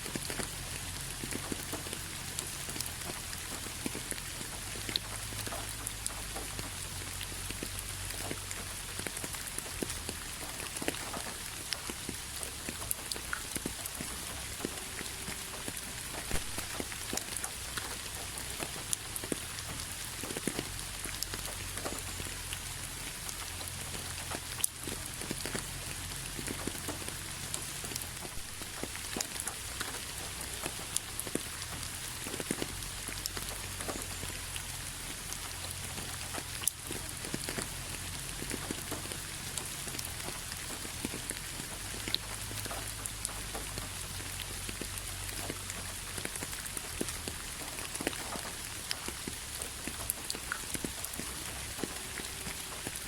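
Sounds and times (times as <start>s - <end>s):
rain on a hard surface: 0.0s - 53.0s.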